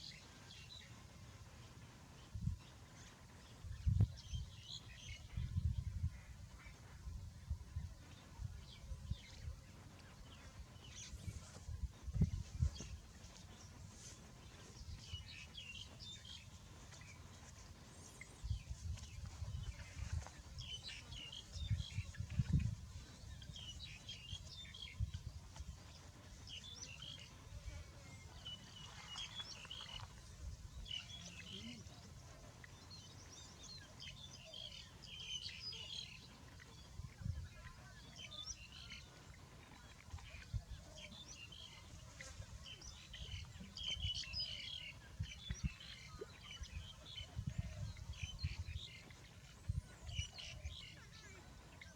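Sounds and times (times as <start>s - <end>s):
small birds chirping: 1.6s - 51.9s.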